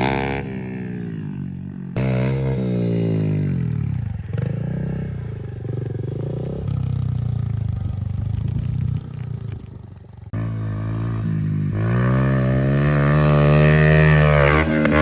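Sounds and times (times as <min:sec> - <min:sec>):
pit bike engine revving: 0:00.0 - 0:15.0.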